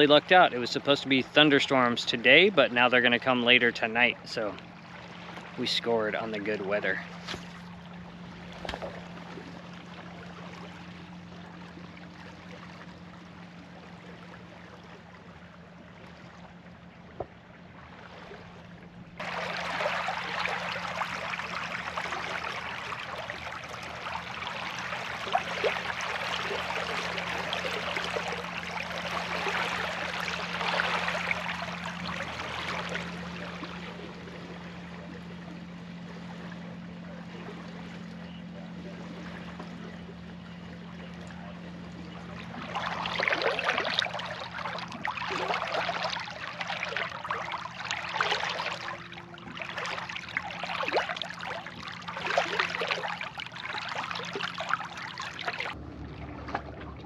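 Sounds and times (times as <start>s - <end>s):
low hum: 0.0s - 57.0s
water rushing along boat hull: 0.0s - 57.0s.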